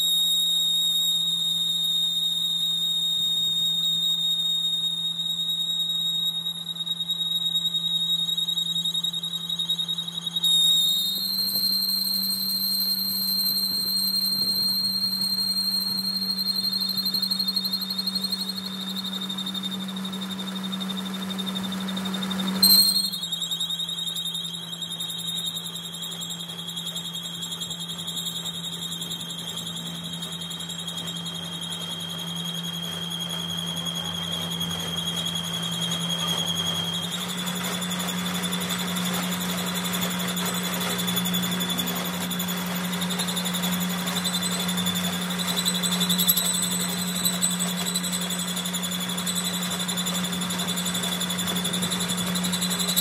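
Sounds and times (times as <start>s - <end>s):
workshop machine humming and whining: 0.0s - 53.0s.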